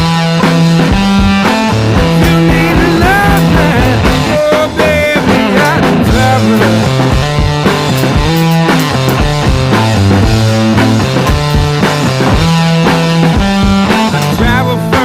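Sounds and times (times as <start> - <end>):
rock music with guitar: 0.0 - 15.0
steady drum beat: 0.0 - 15.0.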